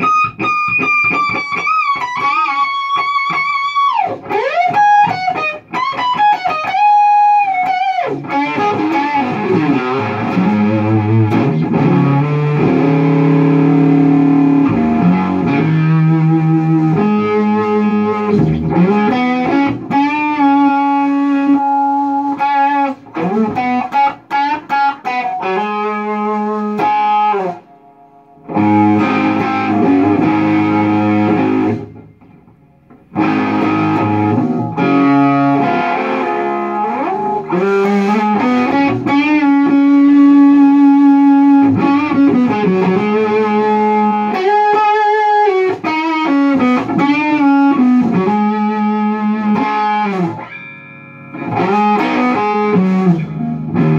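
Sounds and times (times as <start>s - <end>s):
distorted electric guitar riff: 0.0s - 53.9s.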